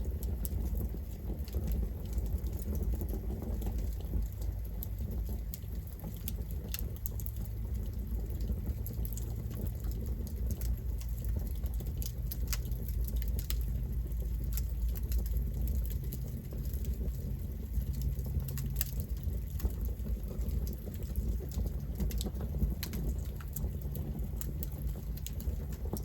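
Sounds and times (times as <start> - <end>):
campfire flames rushing: 0.0 - 26.0
wood crackling and popping: 0.0 - 26.0.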